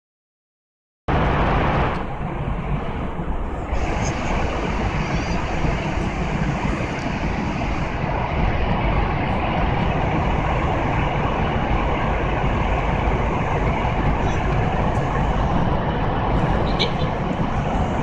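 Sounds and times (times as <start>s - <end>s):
airliner cabin engine rush: 1.1s - 18.0s.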